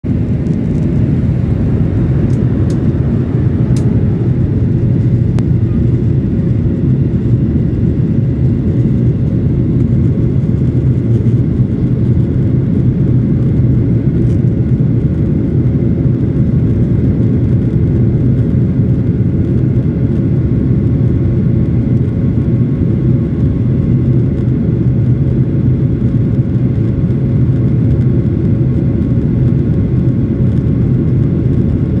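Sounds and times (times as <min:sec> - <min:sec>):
jet airliner taking off: 0:00.0 - 0:32.0.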